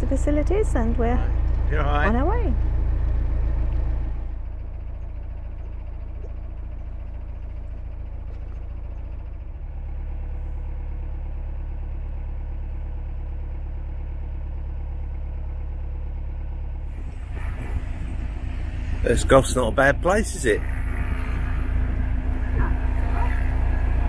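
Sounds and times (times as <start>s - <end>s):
boat diesel engine humming: 0.0s - 24.0s.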